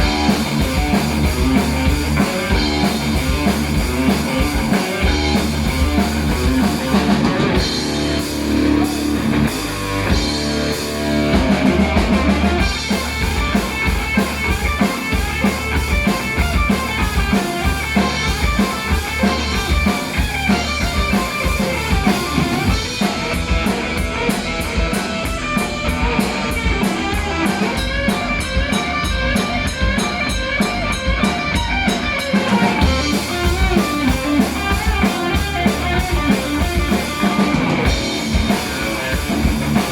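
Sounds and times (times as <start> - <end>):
distorted electric guitars: 0.0 - 39.9
drum kit fast beat: 0.0 - 39.9
heavy metal band playing: 0.0 - 39.9.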